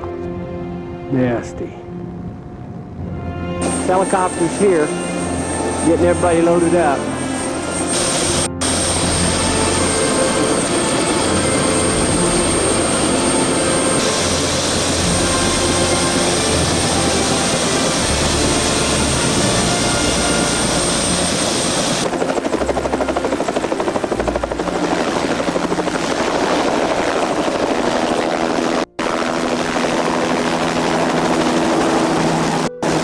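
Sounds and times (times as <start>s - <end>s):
helicopter engine and rotor: 0.0s - 33.0s.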